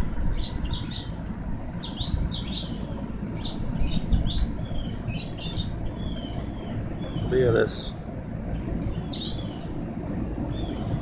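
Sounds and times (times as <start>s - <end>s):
low background rumble: 0.0s - 11.0s
small birds chirping: 0.3s - 1.2s, 1.8s - 9.8s, 10.4s - 11.0s.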